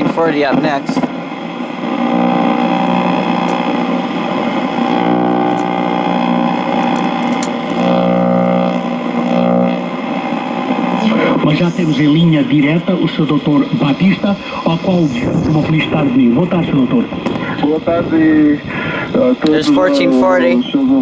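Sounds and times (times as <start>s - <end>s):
radio static buzzing with hiss: 0.0s - 21.0s.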